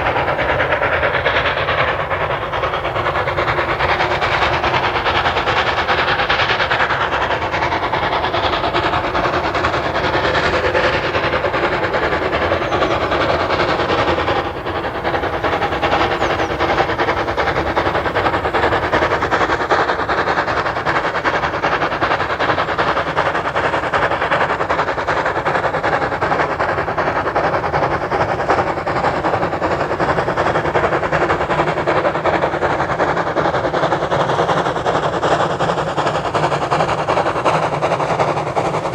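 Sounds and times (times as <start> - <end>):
steam train running on track: 0.0 - 38.9.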